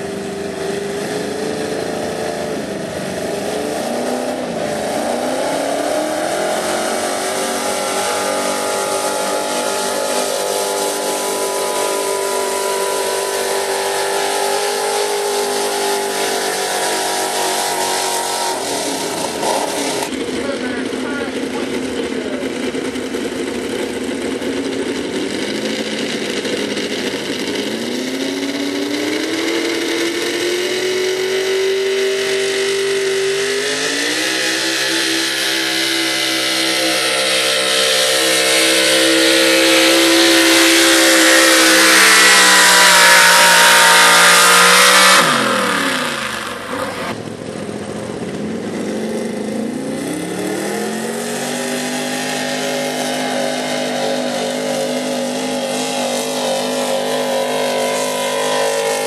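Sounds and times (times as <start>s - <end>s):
another truck engine revving: 0.0s - 59.0s
truck engine at full throttle: 0.0s - 59.0s.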